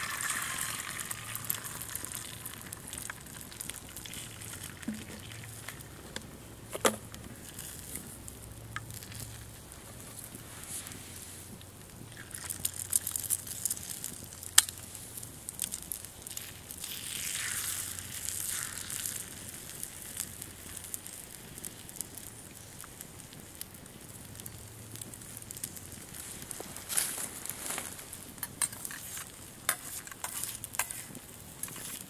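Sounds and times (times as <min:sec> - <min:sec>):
fire hissing: 0:00.0 - 0:32.0
wood fire crackling and popping: 0:00.0 - 0:32.0.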